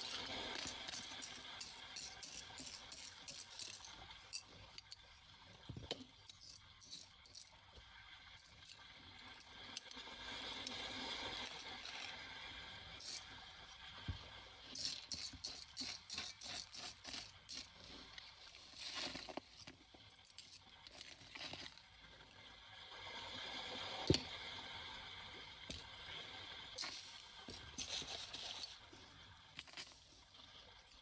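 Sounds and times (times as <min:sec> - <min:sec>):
crackly clicks and crinkles: 0:00.0 - 0:22.5, 0:25.7 - 0:31.0.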